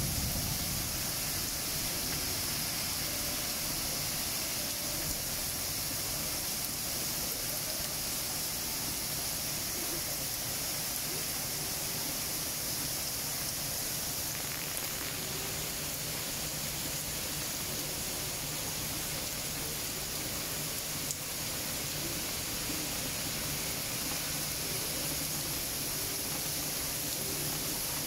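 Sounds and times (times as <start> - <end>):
heavy rain on pavement and leaves: 0.0 - 28.0.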